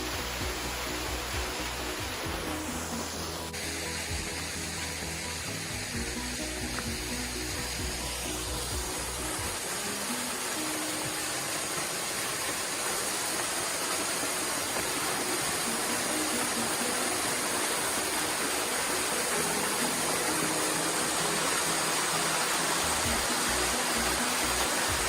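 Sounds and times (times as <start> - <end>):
faint music: 0.0 - 25.0
running water rushing: 0.0 - 25.0.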